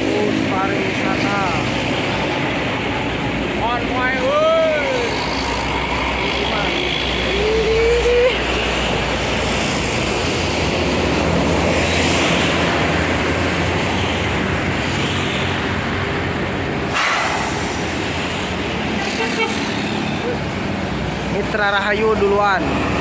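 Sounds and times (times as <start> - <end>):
buses driving past: 0.0 - 23.0.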